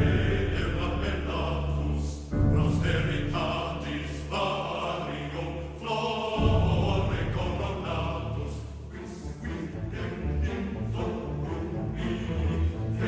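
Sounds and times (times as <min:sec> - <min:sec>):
choir singing: 0:00.0 - 0:13.0
sustained low notes: 0:00.0 - 0:13.0.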